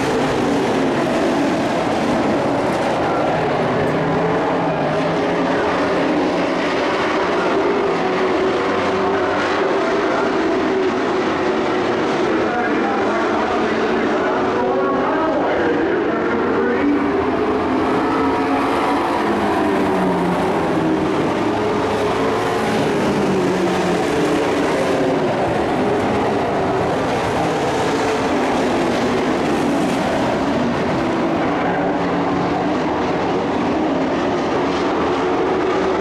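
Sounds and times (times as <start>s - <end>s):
race truck engines passing: 0.0s - 36.0s.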